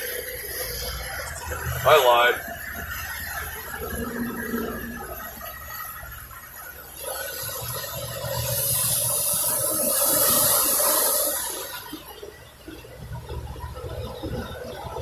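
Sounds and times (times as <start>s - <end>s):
boat engine rumble: 0.0s - 15.0s
water rushing along hull: 0.0s - 15.0s.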